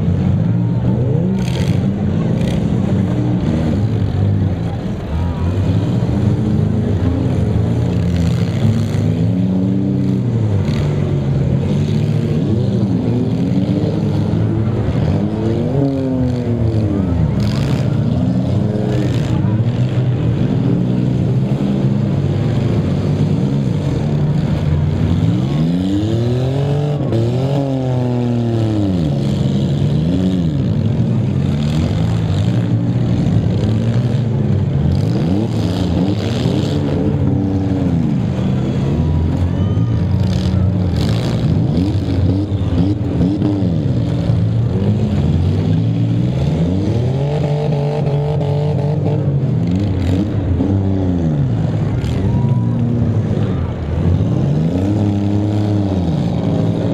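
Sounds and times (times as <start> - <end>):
car engines revving: 0.0 - 56.9.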